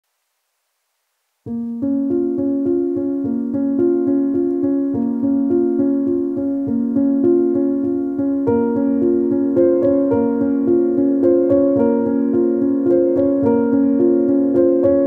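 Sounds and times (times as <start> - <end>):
gentle piano tune: 1.5 - 15.0.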